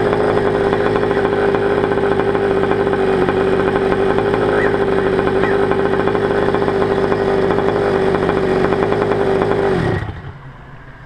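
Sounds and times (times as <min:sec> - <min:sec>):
engine winding down: 0:00.0 - 0:11.0
small two-stroke engine idling: 0:00.0 - 0:11.0.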